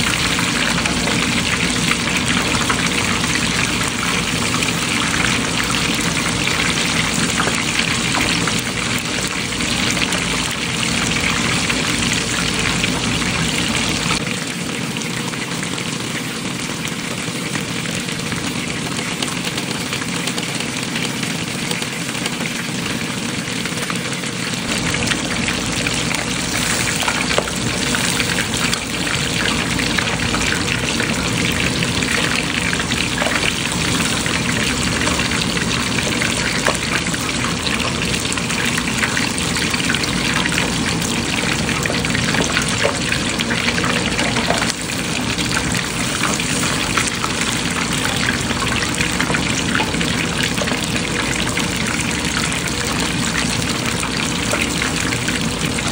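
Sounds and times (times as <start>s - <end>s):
fish sizzling in hot oil: 0.0s - 55.9s.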